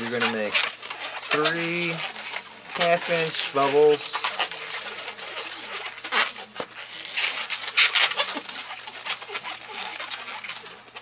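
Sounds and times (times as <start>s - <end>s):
balloon squeaking and rubbing: 0.0s - 11.0s
hands rustling on balloon: 0.0s - 11.0s.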